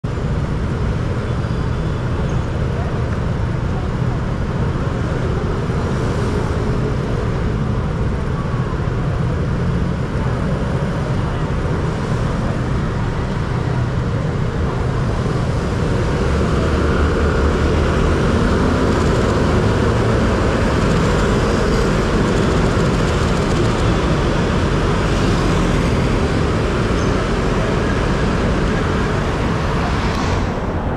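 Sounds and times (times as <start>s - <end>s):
street traffic: 0.0s - 30.9s
motor scooters and cars passing: 0.1s - 30.9s.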